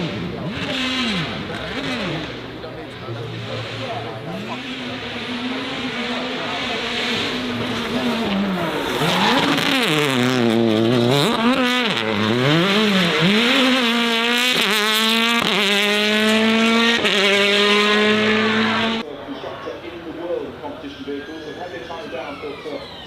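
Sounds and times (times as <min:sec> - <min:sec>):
race car engine revving: 0:00.0 - 0:19.1.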